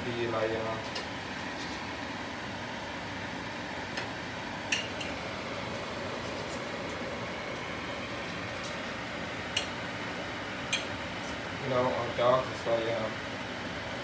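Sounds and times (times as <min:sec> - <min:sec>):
steady room hum: 0:00.0 - 0:14.0.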